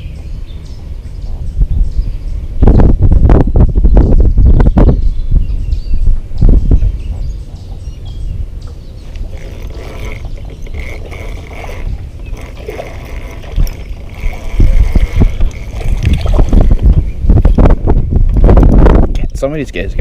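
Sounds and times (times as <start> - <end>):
steady low rumble: 0.0 - 20.0
wind buffeting microphone: 0.0 - 20.0.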